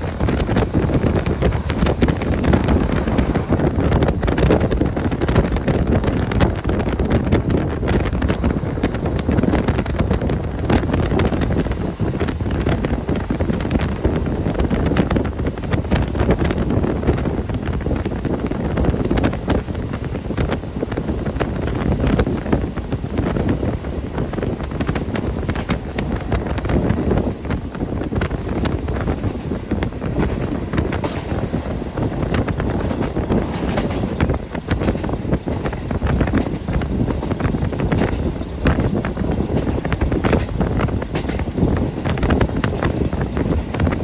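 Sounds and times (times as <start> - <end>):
diesel railcar rumbling: 0.0 - 44.0
wind on microphone: 0.0 - 44.0.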